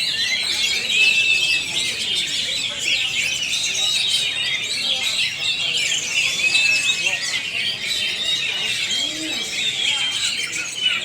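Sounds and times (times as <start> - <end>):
birds singing in chorus: 0.0 - 11.0.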